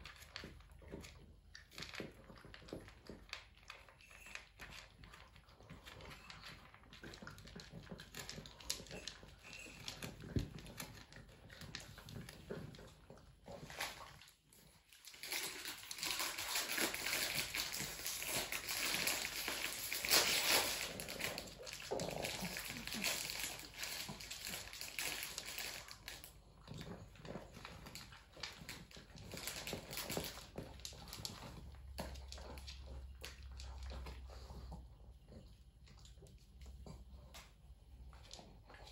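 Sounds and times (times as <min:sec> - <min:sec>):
dog chewing and crunching food: 0:00.0 - 0:38.9.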